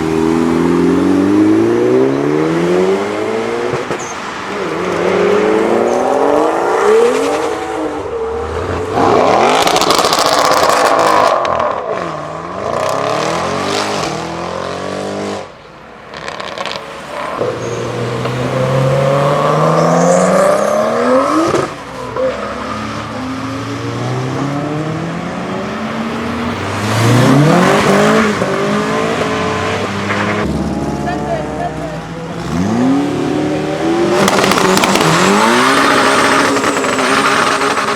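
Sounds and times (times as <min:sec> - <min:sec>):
car engines revving: 0:00.0 - 0:37.9.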